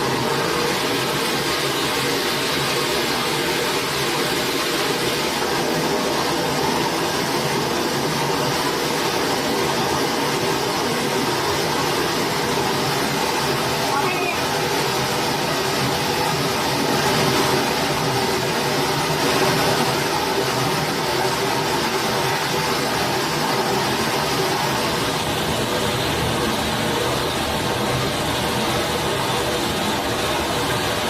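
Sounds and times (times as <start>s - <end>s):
flowing stream: 0.0s - 31.0s.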